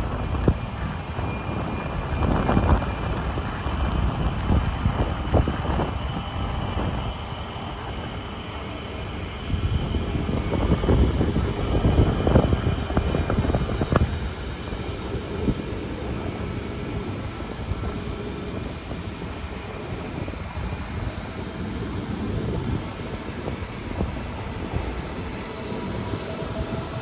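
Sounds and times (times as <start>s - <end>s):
train running past: 0.0s - 27.0s.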